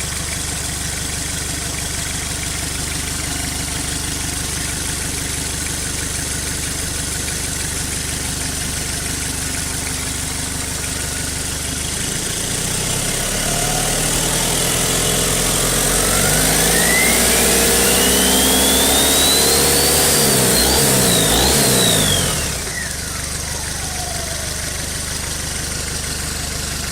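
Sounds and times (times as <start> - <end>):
diesel engine idling and revving: 0.0 - 26.9
turbocharger whine: 0.0 - 26.9.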